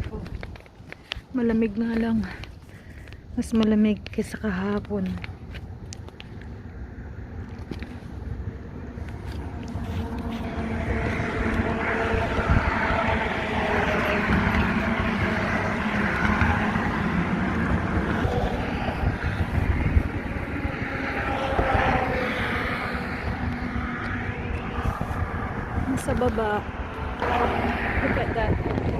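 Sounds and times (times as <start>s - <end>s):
wind buffeting microphone: 0.0s - 28.9s
road traffic rushing past: 5.3s - 28.9s.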